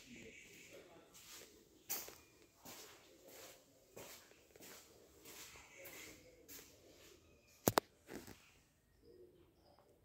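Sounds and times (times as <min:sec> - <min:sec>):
faint footsteps on tiled floor: 0:00.0 - 0:08.6.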